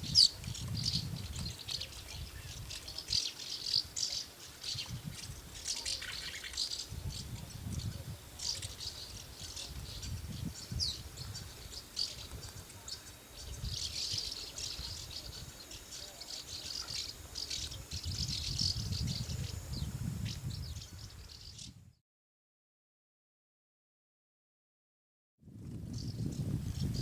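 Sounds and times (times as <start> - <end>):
swallows twittering: 0.0 - 21.8, 25.9 - 27.0.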